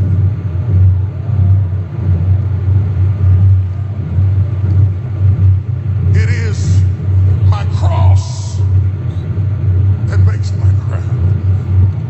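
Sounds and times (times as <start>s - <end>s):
deep rumbling drone: 0.0s - 12.0s.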